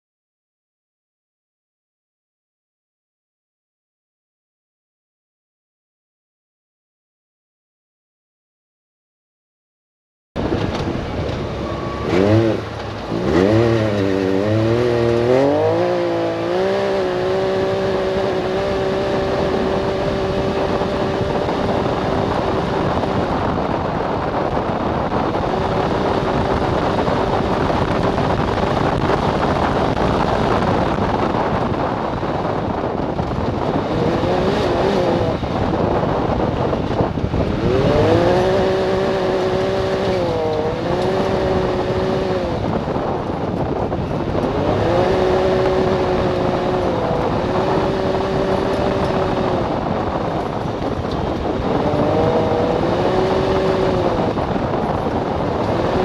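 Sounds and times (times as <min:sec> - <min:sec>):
engine accelerating hard: 0:10.4 - 0:56.0
road and wind noise: 0:10.4 - 0:56.0.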